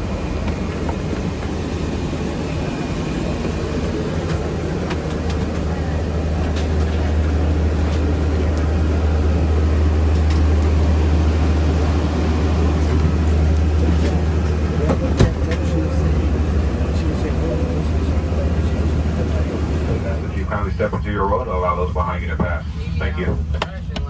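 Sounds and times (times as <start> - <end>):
air-conditioning drone: 0.0 - 24.0.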